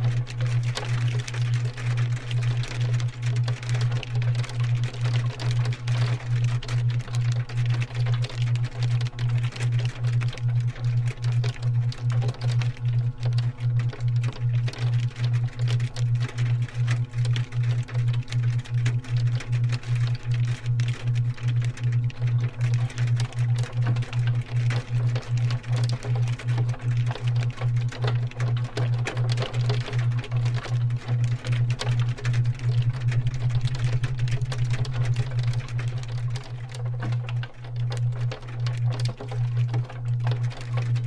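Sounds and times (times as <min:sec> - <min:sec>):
pulsing low hum: 0:00.0 - 0:41.0.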